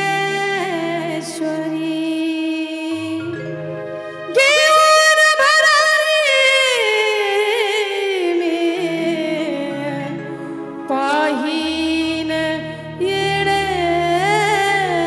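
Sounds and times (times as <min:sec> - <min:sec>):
held-note instrumental accompaniment: 0:00.0 - 0:15.0
woman singing with vibrato: 0:00.0 - 0:15.0.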